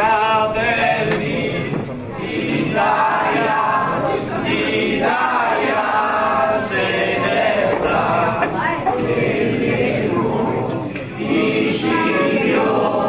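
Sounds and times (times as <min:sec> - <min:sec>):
group singing in chorus: 0:00.0 - 0:13.0.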